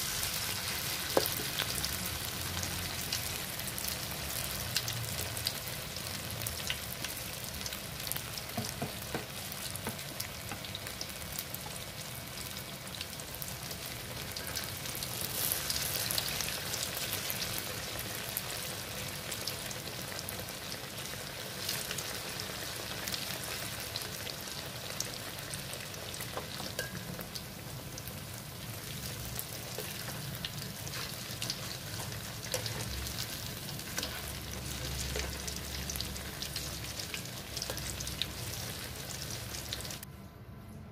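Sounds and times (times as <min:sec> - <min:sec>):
fritters sizzling in oil: 0:00.0 - 0:40.1.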